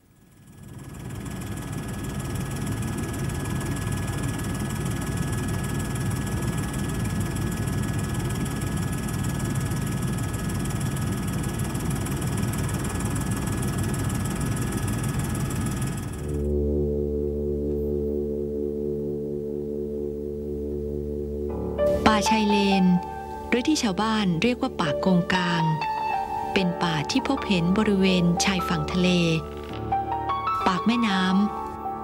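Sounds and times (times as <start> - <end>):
aircraft engine drone: 0.0 - 32.0
thin steady whine: 0.0 - 32.0.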